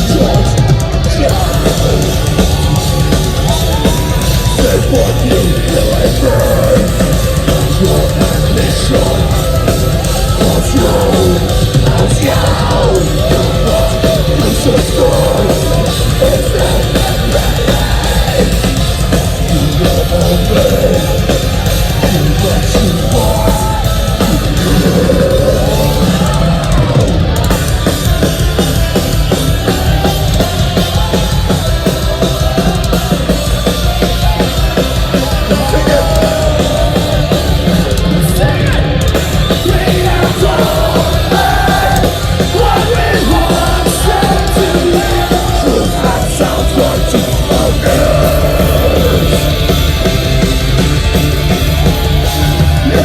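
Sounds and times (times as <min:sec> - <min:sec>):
distorted guitars: 0:00.0 - 0:53.0
driving drums: 0:00.0 - 0:53.0.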